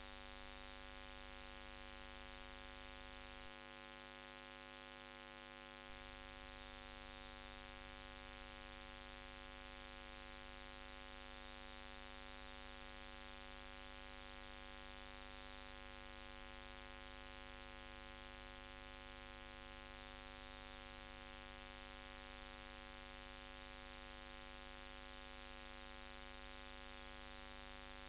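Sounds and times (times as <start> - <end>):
buzzy electrical hum: 0.0 - 24.2.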